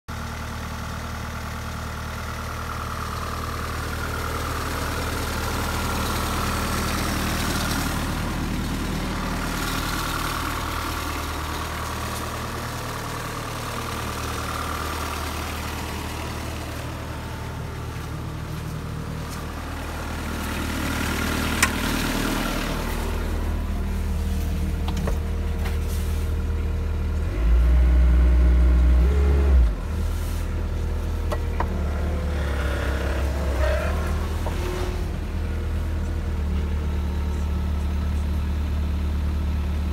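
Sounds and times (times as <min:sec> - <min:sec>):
engine idling: 0:00.1 - 0:39.9.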